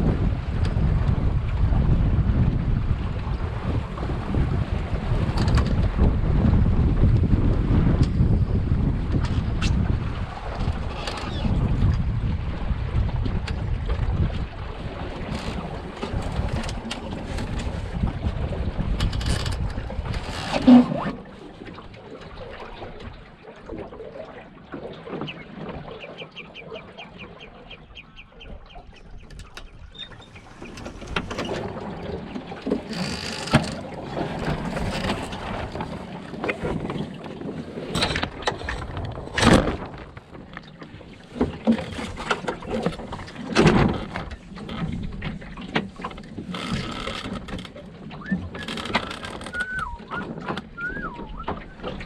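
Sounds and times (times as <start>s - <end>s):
wind on microphone: 0.0s - 23.8s, 27.0s - 52.0s
water slapping at hull: 0.0s - 52.0s.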